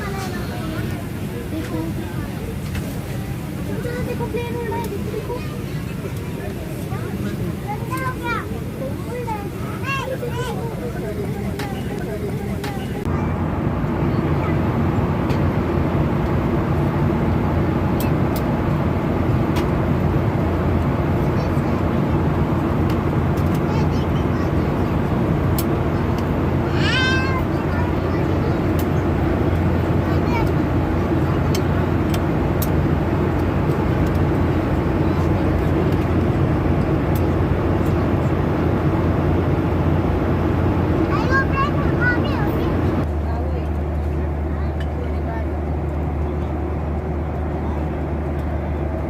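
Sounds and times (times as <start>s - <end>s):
airliner cabin engine rumble: 0.0s - 49.0s.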